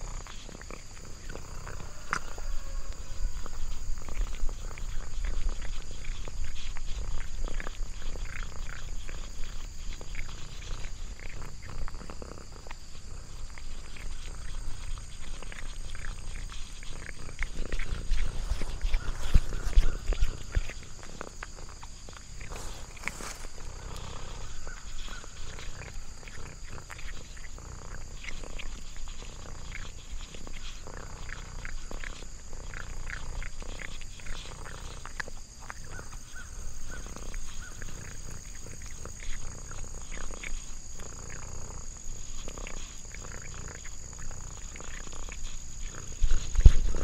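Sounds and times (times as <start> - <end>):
cat chewing and licking: 0.0 - 47.0
high insect drone: 0.0 - 47.0.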